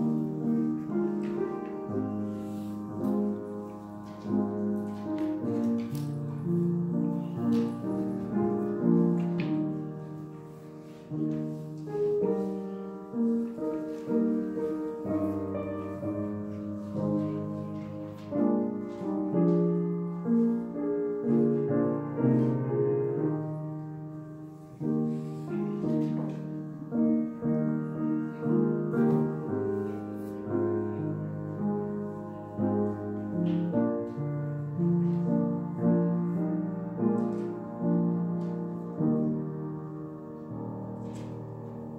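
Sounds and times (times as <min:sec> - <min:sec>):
piano playing: 0:00.0 - 0:41.9.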